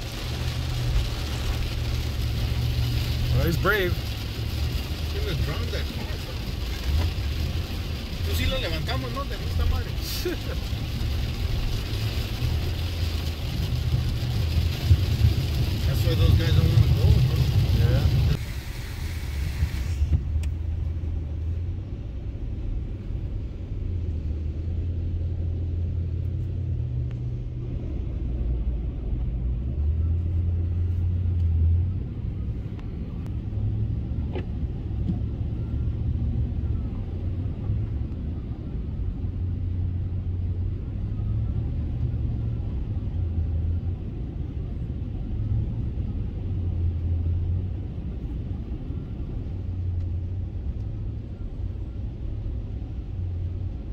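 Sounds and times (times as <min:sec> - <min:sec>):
truck engine and road rumble: 0:00.0 - 0:53.9.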